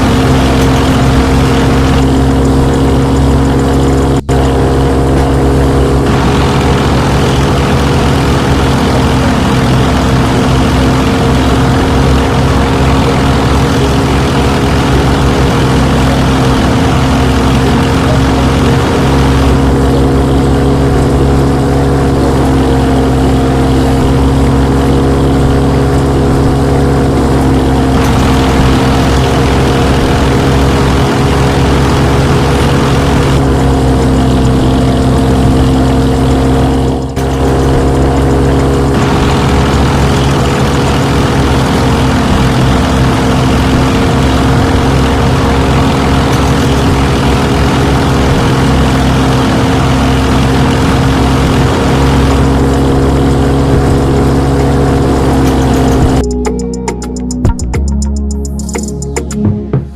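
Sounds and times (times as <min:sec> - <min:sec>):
electric motor humming: 0:00.0 - 0:56.2.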